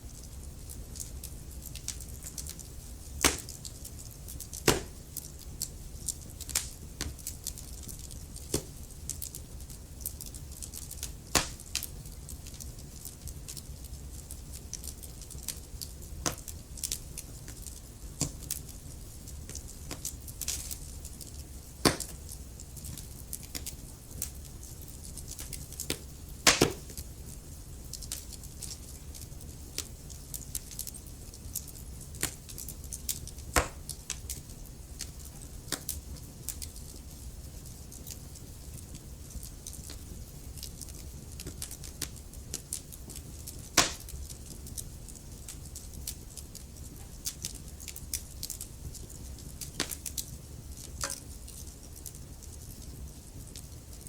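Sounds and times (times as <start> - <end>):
wood fire crackling: 0.0 - 54.0
loud fire pops: 0.6 - 9.4, 10.0 - 13.6, 14.2 - 27.1, 27.9 - 36.9, 37.6 - 44.8, 47.3 - 51.3.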